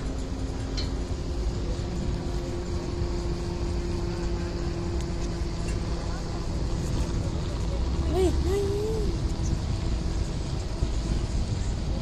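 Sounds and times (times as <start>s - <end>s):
droning hum: 0.0s - 12.0s
low engine rumble: 0.0s - 12.0s.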